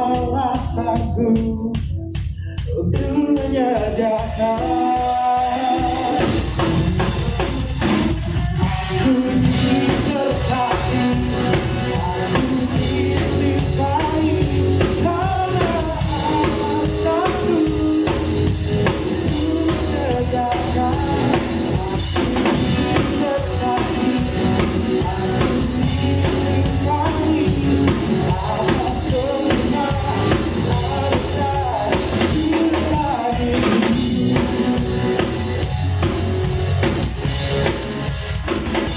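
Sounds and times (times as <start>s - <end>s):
person singing: 0.0s - 35.5s
drum kit: 0.0s - 38.9s
guitar: 0.0s - 38.9s
live band playing worship song: 0.0s - 38.9s.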